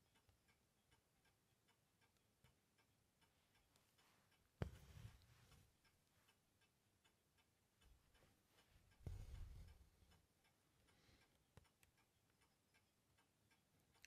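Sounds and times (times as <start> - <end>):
faint regular ticking: 0.0 - 14.0.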